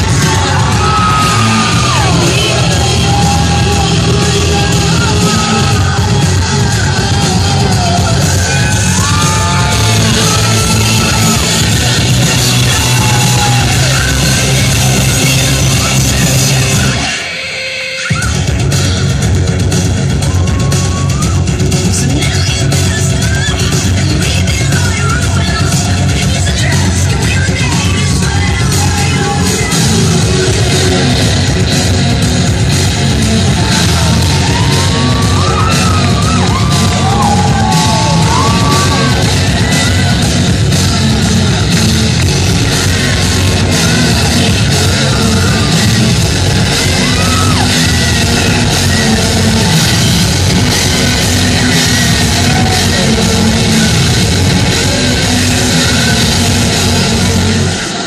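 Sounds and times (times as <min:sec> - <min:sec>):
loud rock music with vocals: 0:00.0 - 0:58.0.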